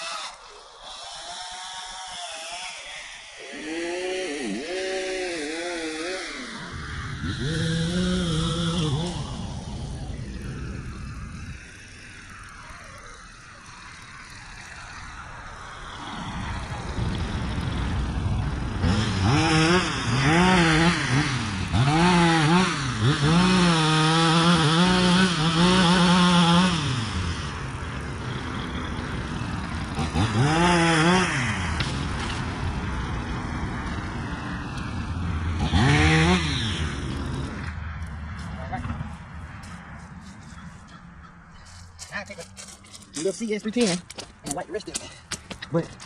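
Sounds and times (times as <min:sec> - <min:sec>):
two-stroke saw engine revving: 0:00.0 - 0:39.0.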